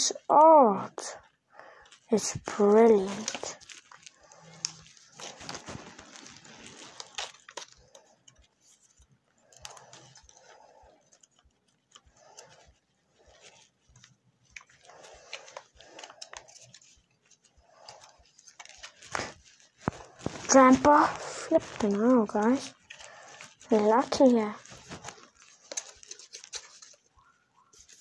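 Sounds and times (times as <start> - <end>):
cards rustling and sliding: 1.9 - 28.0.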